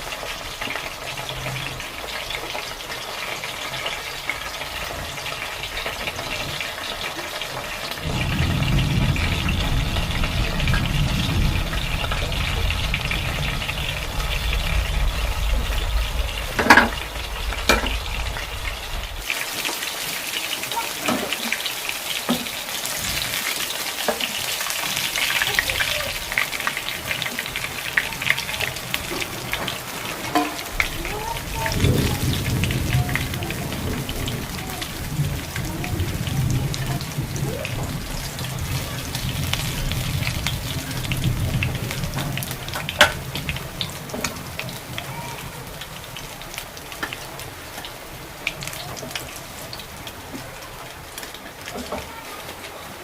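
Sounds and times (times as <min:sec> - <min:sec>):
food sizzling in a pan: 0:00.0 - 0:52.8.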